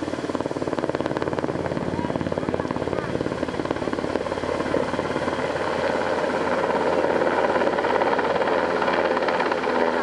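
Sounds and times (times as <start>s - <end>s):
helicopter rotor chopping: 0.0s - 10.0s.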